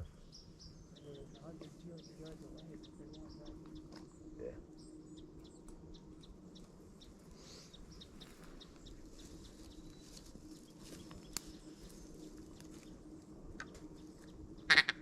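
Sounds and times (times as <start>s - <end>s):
faint bird chirps: 0.0s - 15.0s
faint low hum: 0.0s - 15.0s.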